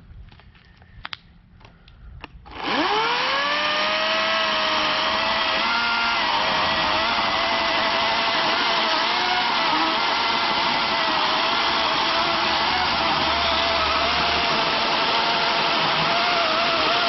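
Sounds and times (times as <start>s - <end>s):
electric chainsaw cutting log: 2.5s - 17.0s.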